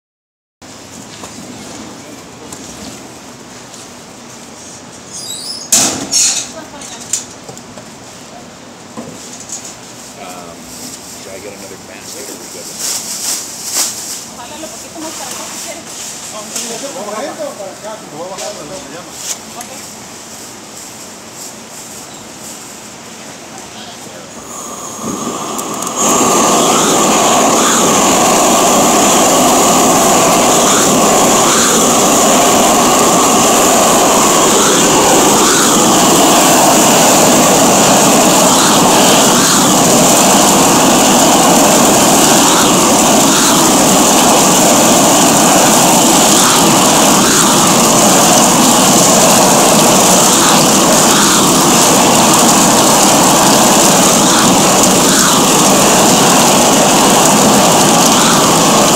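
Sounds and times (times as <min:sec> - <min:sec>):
gas burners roaring: 0:00.7 - 0:19.8, 0:22.9 - 0:58.9.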